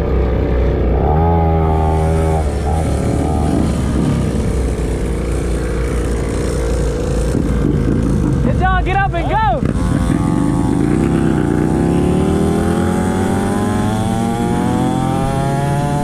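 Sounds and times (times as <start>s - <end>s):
mini dirt bike engine running: 1.2s - 8.5s, 9.5s - 15.8s.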